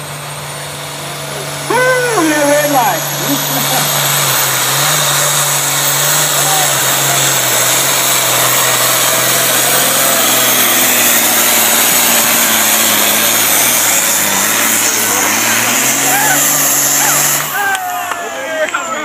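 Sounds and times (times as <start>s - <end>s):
tractor engine under heavy load: 0.0s - 19.0s.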